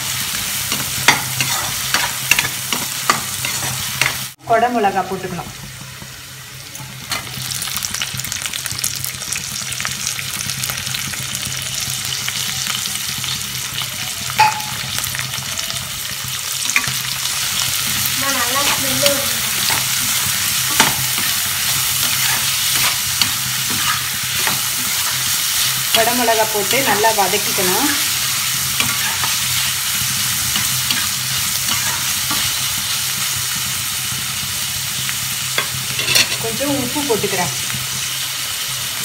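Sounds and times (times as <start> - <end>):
vegetables sizzling in oil: 0.0 - 39.0.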